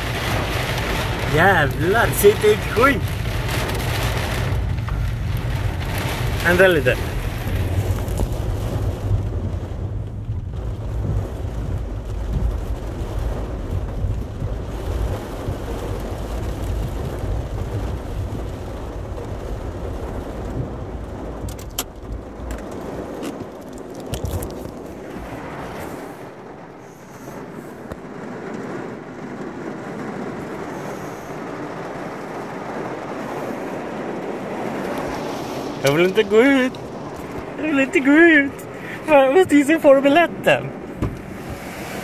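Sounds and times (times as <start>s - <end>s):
car driving rumble: 0.0s - 42.0s
heavy rain on a car: 0.0s - 42.0s.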